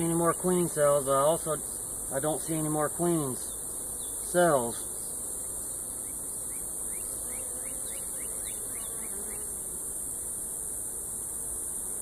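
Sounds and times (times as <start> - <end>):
bee flying past: 0.0 - 12.0
bees buzzing: 0.0 - 12.0
steady high hiss: 0.0 - 12.0.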